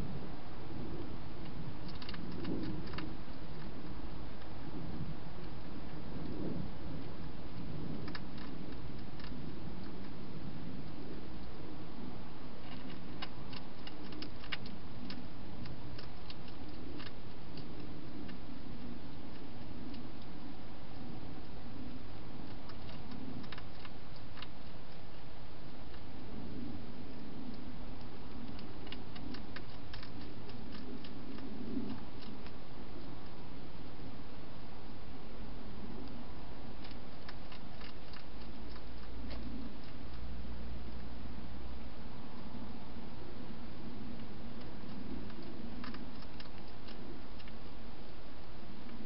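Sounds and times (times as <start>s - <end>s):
low background noise: 0.0s - 49.0s
steady low hum: 0.0s - 49.0s
hedgehog chewing clicks: 0.9s - 11.6s, 12.6s - 33.9s, 35.8s - 41.1s, 43.8s - 49.0s.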